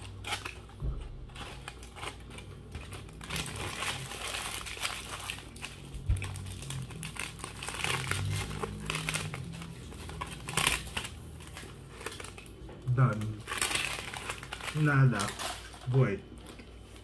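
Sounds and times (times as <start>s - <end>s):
foil wrapper crinkling: 0.0s - 17.0s.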